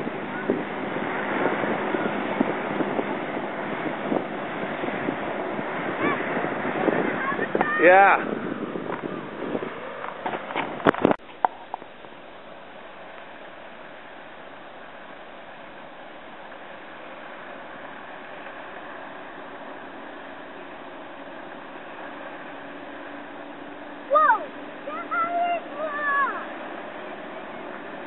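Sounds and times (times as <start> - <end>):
hovercraft rushing noise: 0.0 - 28.0.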